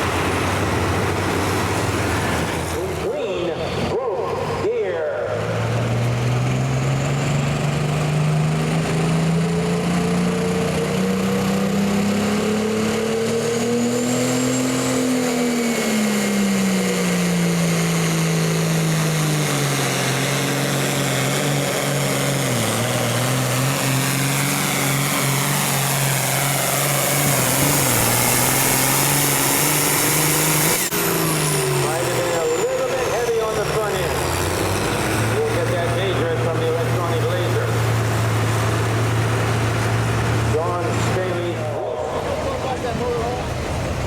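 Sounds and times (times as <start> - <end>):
vehicle engine running under load: 0.0 - 44.0.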